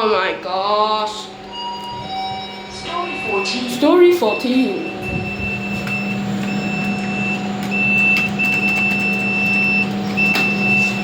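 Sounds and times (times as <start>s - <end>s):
lift electrical hum: 0.0s - 11.0s
high electronic beep: 1.6s - 11.0s.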